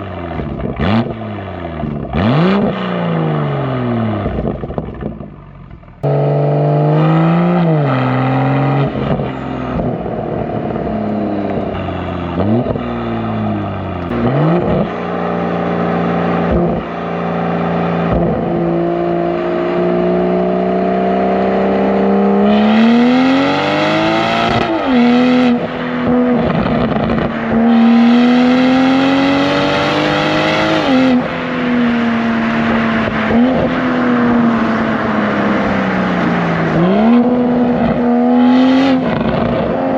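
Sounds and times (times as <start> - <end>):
car engine revving through upshifts: 0.0 - 5.2, 6.0 - 39.9.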